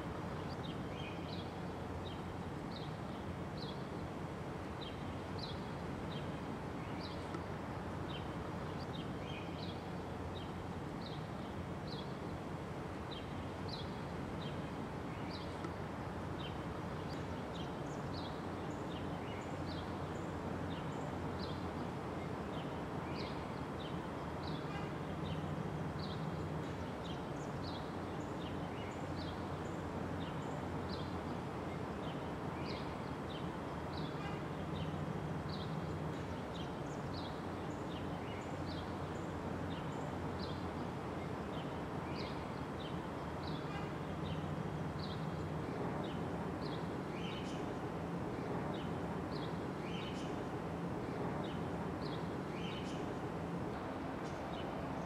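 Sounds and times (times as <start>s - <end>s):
distant city traffic rumble: 0.0s - 55.0s
small birds chirping: 0.2s - 55.0s.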